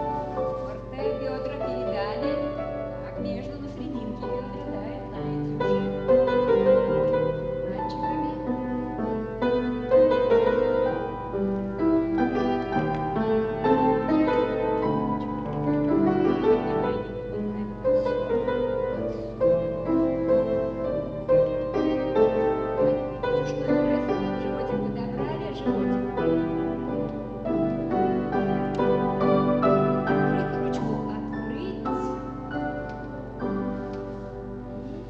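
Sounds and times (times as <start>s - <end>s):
classical piano playing: 0.0s - 35.0s.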